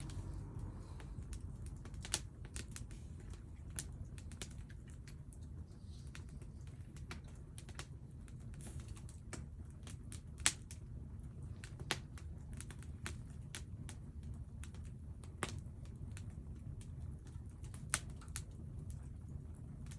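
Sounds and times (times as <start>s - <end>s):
firewood crackling and popping: 0.0s - 19.9s
low steady rumble: 0.0s - 19.9s.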